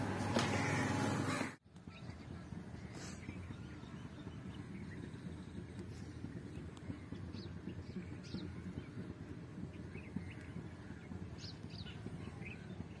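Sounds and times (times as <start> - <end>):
low crackling noise: 1.6 - 13.0.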